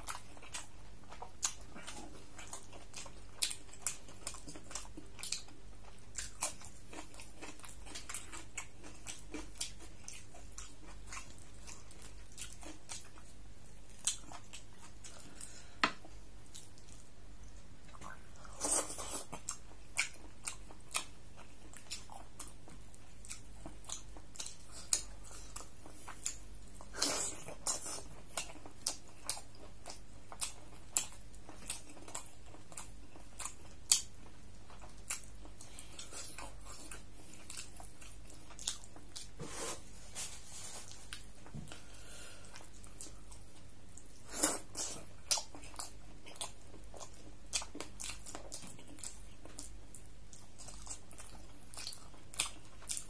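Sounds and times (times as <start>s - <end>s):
chewing: 0.0s - 13.3s, 17.9s - 39.4s, 40.8s - 53.0s.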